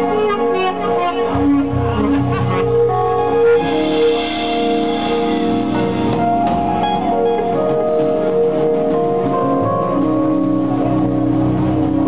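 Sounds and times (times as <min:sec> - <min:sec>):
drum kit: 0:00.0 - 0:12.0
electric guitar: 0:00.0 - 0:12.0
keyboard: 0:00.0 - 0:12.0
saxophone melody: 0:00.0 - 0:12.0.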